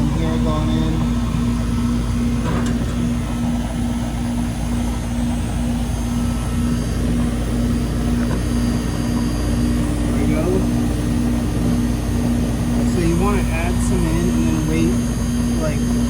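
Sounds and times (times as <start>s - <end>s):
compressor and fan hum: 0.0s - 16.0s
pulsing low tone: 0.0s - 16.0s
steady rushing noise: 0.0s - 16.0s.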